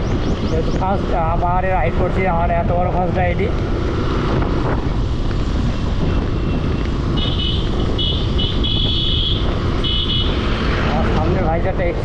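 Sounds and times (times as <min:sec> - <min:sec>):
motorcycle engine and road noise: 0:00.0 - 0:12.0
wind rushing over microphone: 0:00.0 - 0:12.0.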